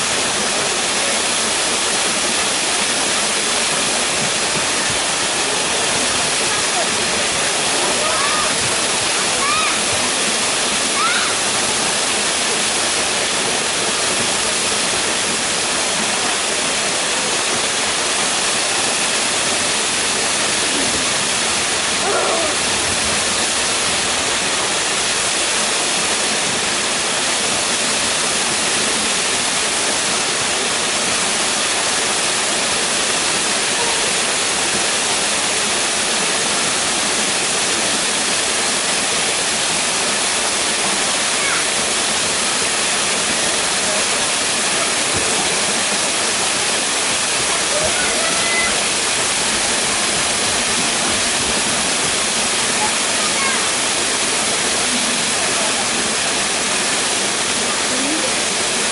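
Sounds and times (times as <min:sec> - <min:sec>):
small waterfall splashing: 0:00.0 - 0:58.9.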